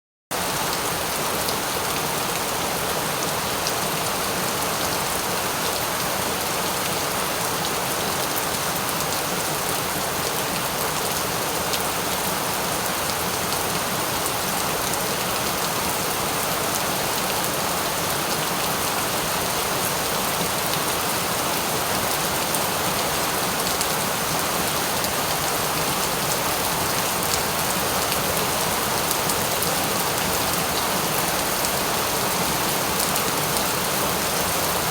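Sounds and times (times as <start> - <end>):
steady rain hiss: 0.4 - 34.9.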